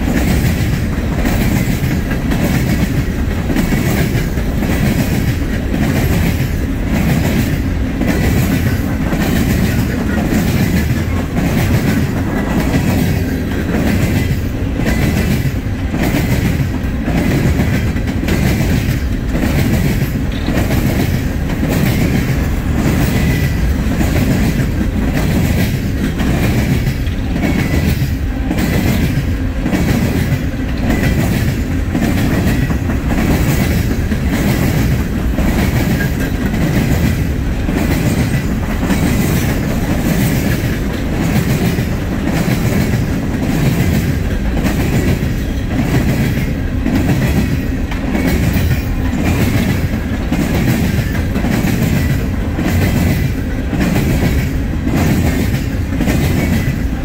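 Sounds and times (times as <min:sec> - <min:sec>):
steel wheels rumbling on rail: 0:00.0 - 0:57.0
wheels clickety-clack over rail joints: 0:00.0 - 0:57.0.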